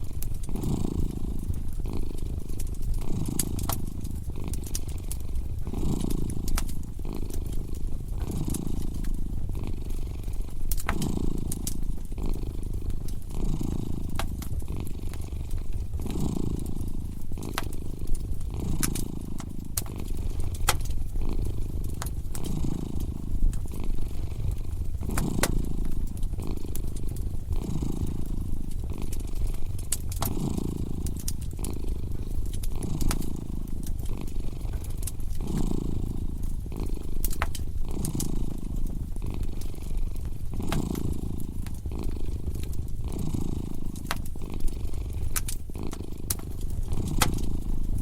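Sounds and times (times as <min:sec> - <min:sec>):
cat purring: 0:00.0 - 0:48.0
wood fire crackling: 0:00.0 - 0:48.0.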